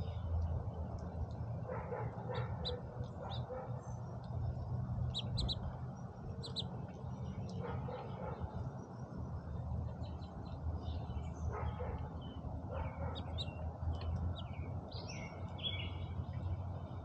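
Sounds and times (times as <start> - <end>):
low steady rumble: 0.0 - 17.0
songbirds chirping: 0.0 - 17.0.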